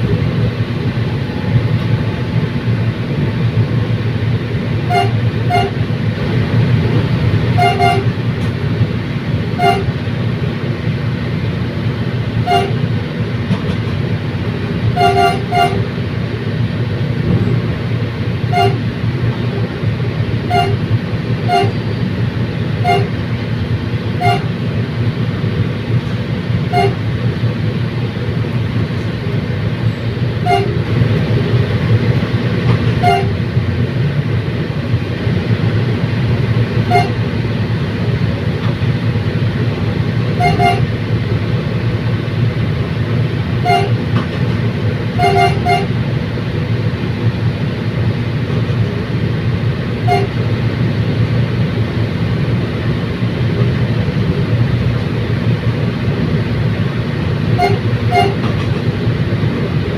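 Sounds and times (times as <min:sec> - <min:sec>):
diesel train rumbling: 0:00.0 - 0:59.9.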